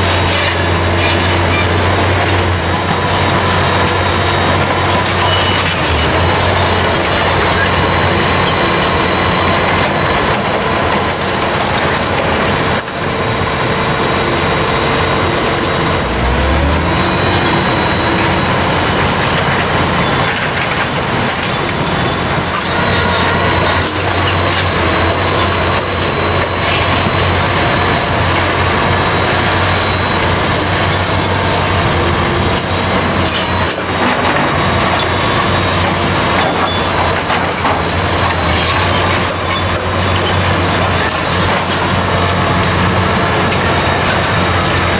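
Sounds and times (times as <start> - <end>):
excavator diesel engine under load: 0.0 - 44.9.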